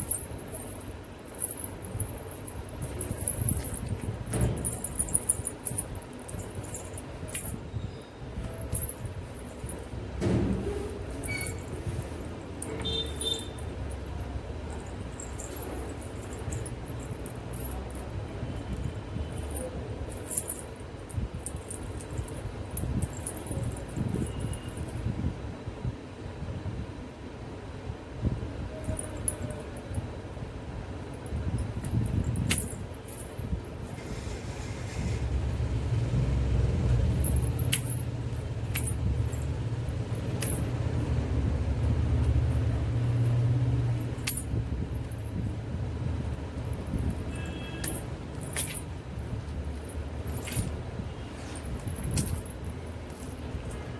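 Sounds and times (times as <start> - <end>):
anklets jingling: 0.0 - 7.7, 8.3 - 25.2, 28.8 - 30.0, 31.2 - 35.8, 37.0 - 53.9
steady low rumble: 0.0 - 26.8, 28.2 - 53.9.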